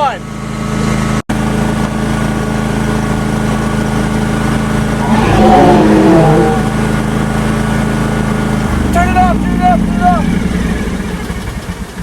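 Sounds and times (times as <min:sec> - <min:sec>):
lawn mower engine running: 0:00.3 - 0:12.0.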